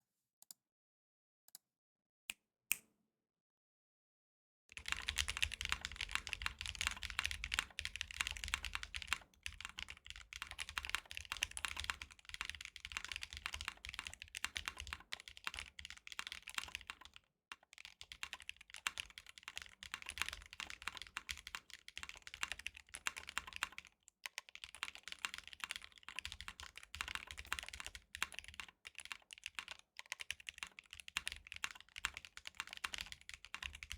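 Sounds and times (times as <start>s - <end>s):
typing on mechanical keyboard: 4.7s - 33.9s.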